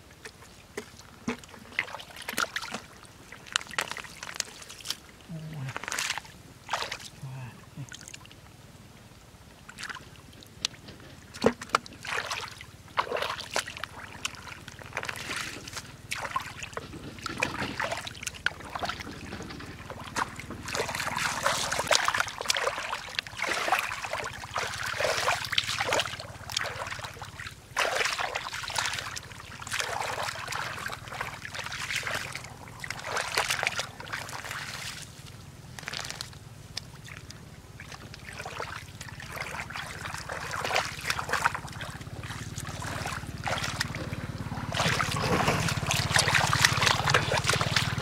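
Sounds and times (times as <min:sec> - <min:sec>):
splashing in muddy water: 0:00.2 - 0:08.4, 0:09.6 - 0:48.0.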